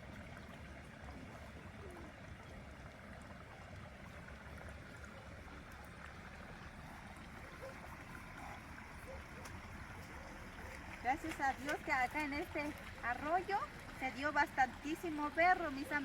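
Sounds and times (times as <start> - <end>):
creek flowing: 0.0 - 16.0.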